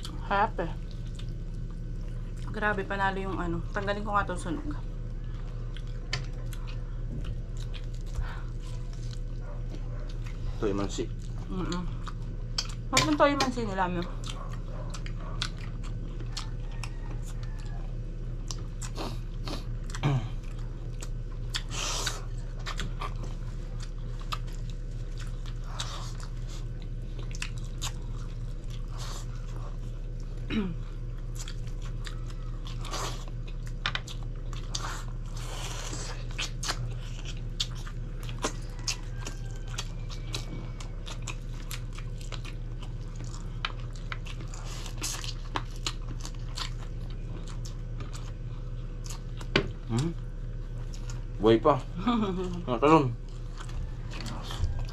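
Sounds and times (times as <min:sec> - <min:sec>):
chewing and biting food: 0:00.0 - 0:54.9
low electrical hum: 0:00.0 - 0:54.9.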